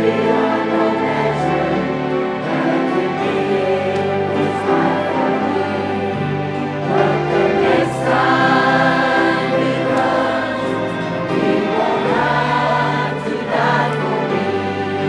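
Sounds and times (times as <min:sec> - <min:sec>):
choir singing a gospel hymn: 0:00.0 - 0:15.0
instrumental accompaniment: 0:00.0 - 0:15.0.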